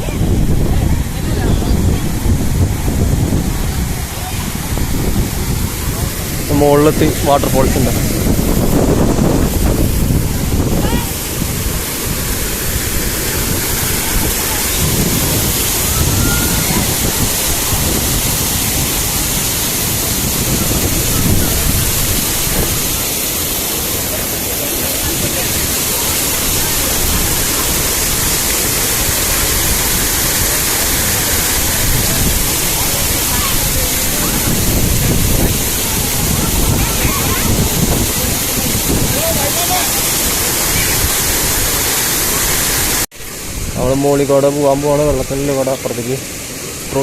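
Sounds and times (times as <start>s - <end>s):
wind buffeting microphone: 0.0s - 44.3s
waterfall rushing: 0.0s - 47.0s.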